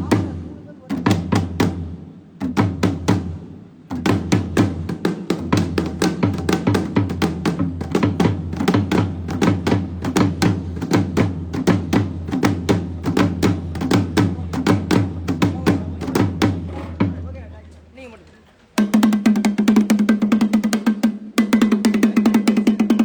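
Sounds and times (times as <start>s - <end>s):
drums beaten fast: 0.0s - 18.1s, 18.8s - 23.0s.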